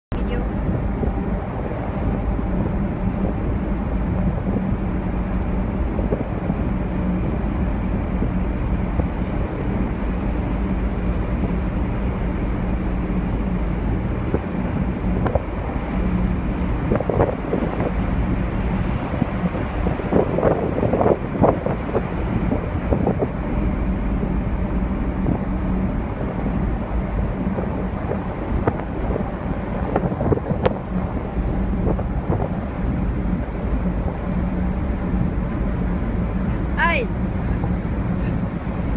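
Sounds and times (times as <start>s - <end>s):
ship engines droning: 0.1s - 38.9s
wind buffeting microphone: 0.1s - 38.9s.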